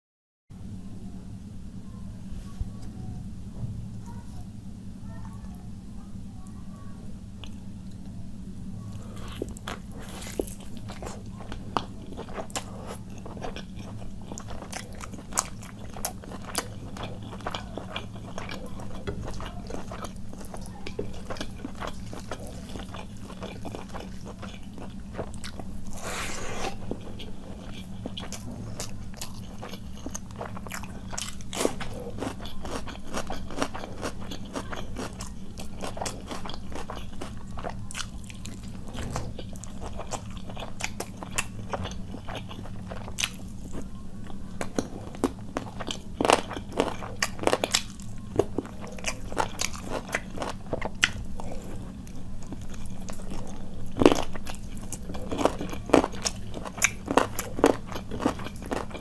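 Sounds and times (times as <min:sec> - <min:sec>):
steady low hum: 0:00.5 - 0:59.0
wet chewing clicks: 0:09.2 - 0:43.9, 0:44.6 - 0:59.0.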